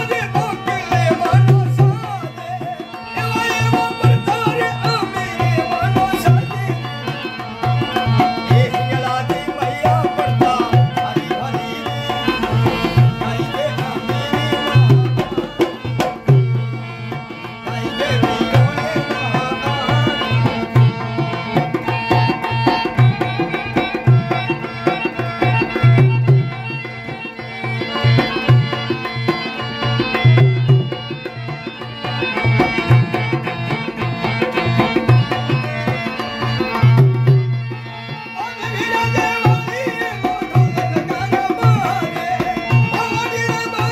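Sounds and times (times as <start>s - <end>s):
barrel drum folk rhythm: 0.0s - 43.9s.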